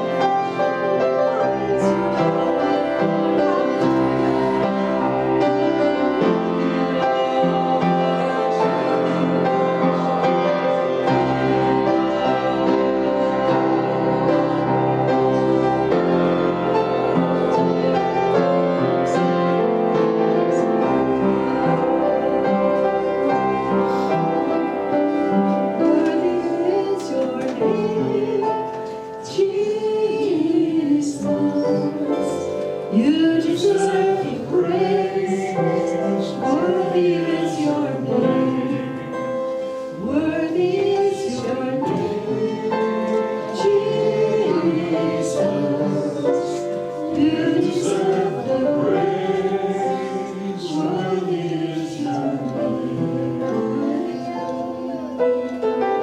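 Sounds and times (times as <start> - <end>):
people singing: 0.0 - 56.0
piano chords: 0.0 - 56.0.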